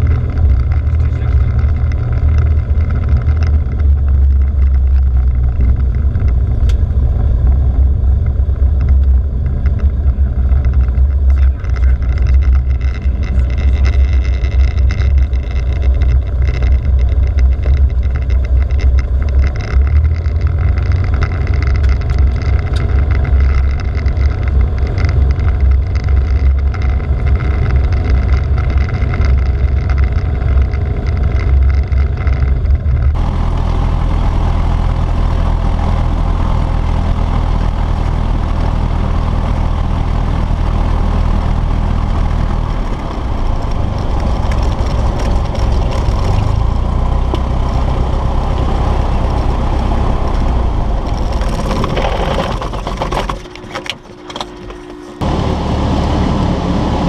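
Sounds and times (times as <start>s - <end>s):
propeller plane engine rumbling: 0.0s - 57.0s.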